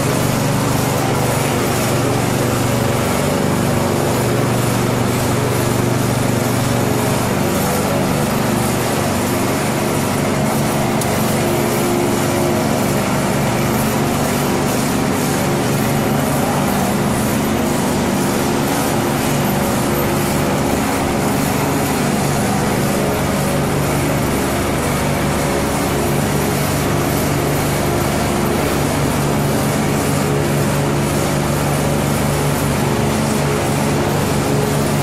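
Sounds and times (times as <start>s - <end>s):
screed engine running steadily: 0.0s - 35.0s.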